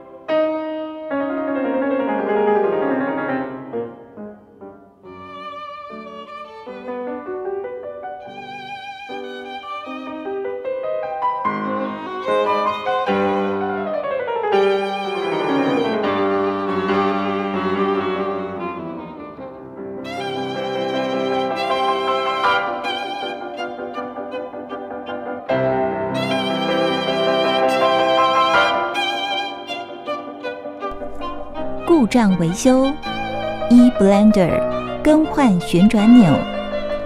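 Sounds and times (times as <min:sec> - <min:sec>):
slow instrumental music: 0:00.0 - 0:37.0.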